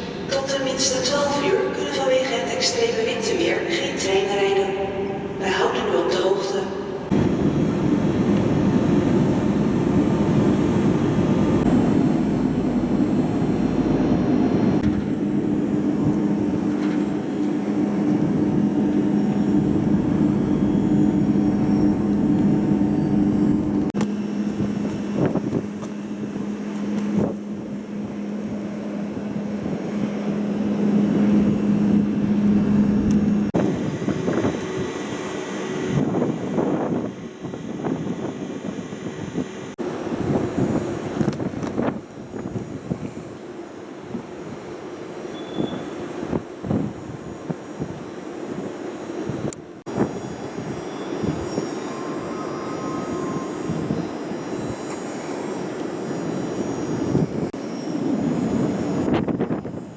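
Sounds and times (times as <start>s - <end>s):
low mechanical hum: 7.1s - 59.9s.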